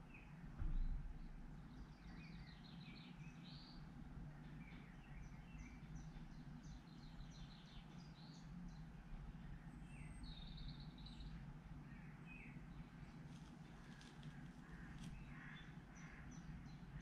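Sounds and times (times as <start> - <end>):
faint birdsong chirps: 0.0 - 17.0
low steady hum: 0.0 - 17.0.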